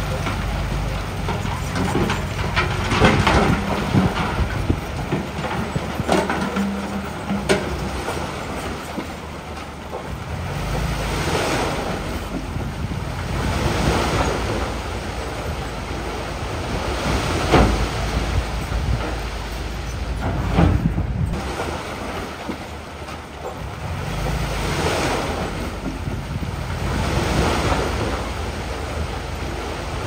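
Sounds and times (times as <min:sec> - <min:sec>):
sharp knocks and clanks: 0:00.0 - 0:11.2, 0:13.4 - 0:26.4
heavy machinery engine rumble: 0:00.0 - 0:30.0.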